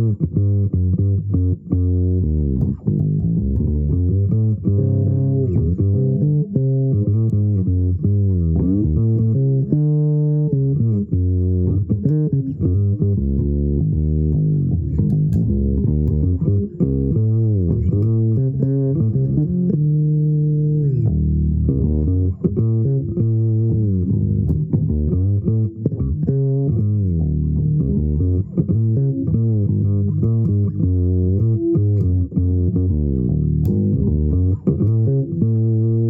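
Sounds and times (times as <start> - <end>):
bass guitar plucked notes: 0.0 - 36.0.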